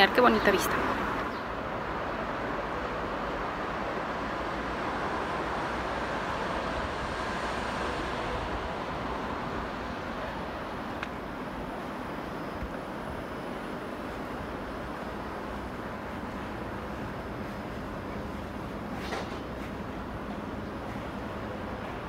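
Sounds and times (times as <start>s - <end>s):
distant city traffic hum: 0.0s - 22.0s.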